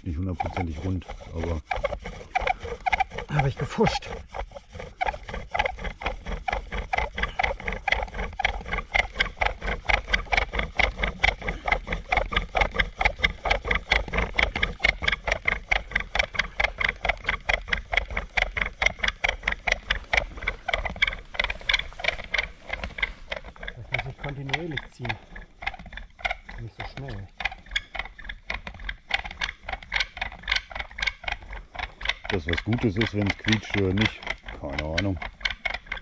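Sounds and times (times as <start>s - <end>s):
bow drill squeaking and grinding: 0.0s - 36.0s.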